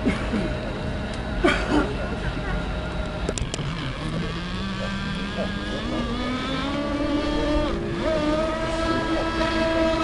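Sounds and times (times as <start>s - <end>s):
model boat engine whine: 0.0s - 10.0s.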